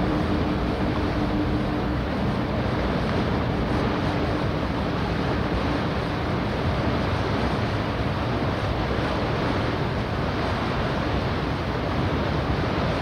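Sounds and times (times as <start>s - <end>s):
churning water: 0.0s - 13.0s
low engine rumble: 0.0s - 13.0s
wind: 0.0s - 13.0s.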